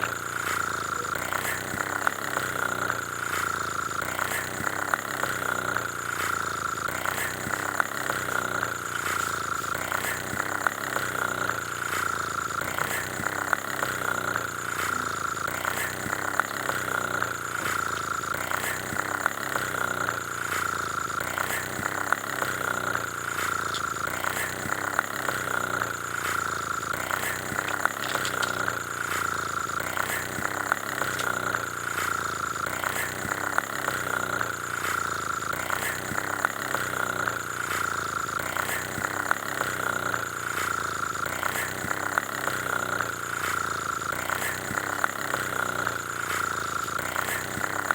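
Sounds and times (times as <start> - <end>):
engine humming: 0.0 - 47.9.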